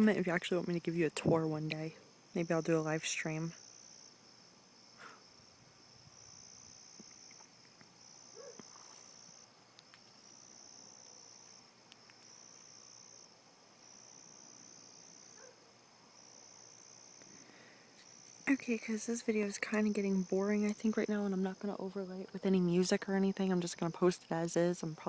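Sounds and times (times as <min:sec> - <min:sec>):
background cricket chirr: 0:00.0 - 0:25.0.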